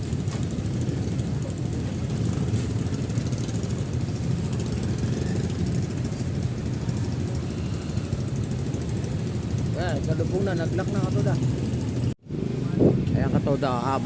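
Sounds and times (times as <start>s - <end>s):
small motorcycle engine running: 0.0s - 12.8s.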